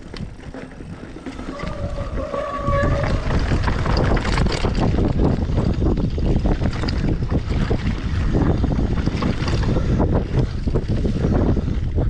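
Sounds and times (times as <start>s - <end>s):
bike rumbling and rattling: 0.0s - 12.0s
wind buffeting the microphone: 0.0s - 12.0s.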